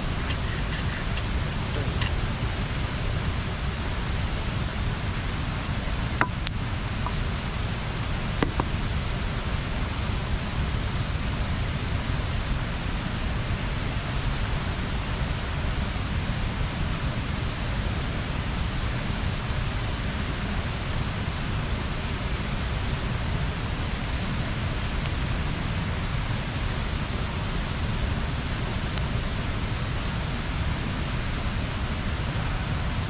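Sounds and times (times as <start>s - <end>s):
bonfire hissing: 0.0s - 33.0s
fire crackles: 0.0s - 33.0s.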